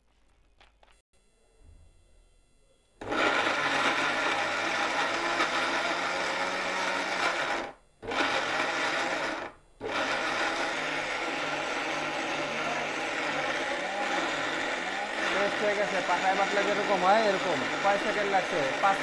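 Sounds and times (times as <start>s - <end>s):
mixer grinder running: 3.0s - 19.0s.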